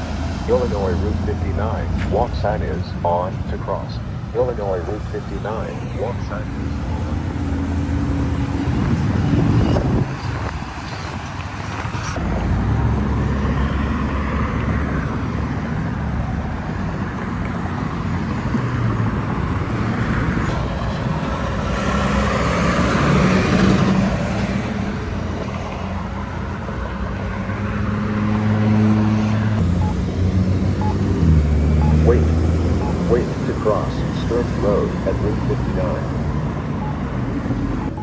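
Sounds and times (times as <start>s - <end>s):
vehicle engines running: 0.0s - 38.0s
vehicle passing: 0.0s - 38.0s.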